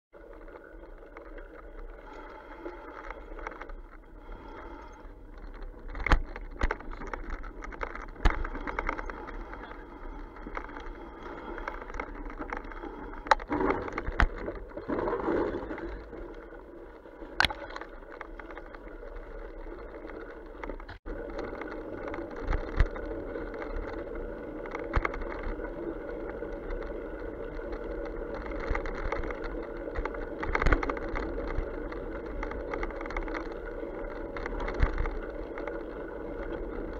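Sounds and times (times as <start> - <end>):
bike tyres rolling on mud: 0.1 - 36.9.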